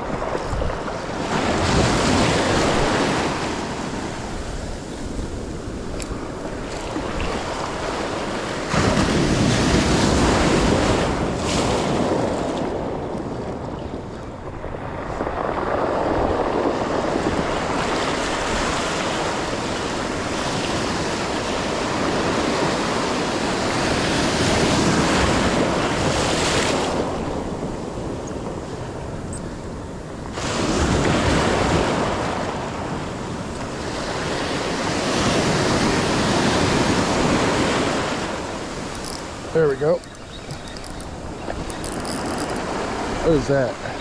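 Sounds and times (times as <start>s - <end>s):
waves breaking on beach: 0.0s - 44.0s
wind buffeting microphone: 0.0s - 44.0s.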